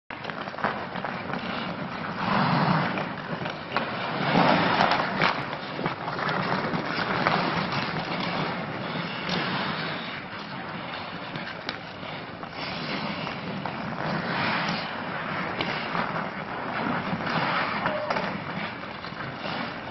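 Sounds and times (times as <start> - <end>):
hockey sticks and puck knocking: 0.1 - 19.9
skates scraping across ice: 0.1 - 19.9.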